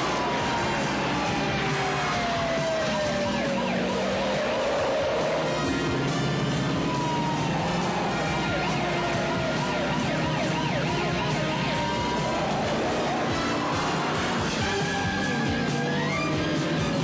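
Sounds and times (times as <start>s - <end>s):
siren sweeping up and down: 0.0s - 17.0s
speeding car: 0.0s - 17.0s.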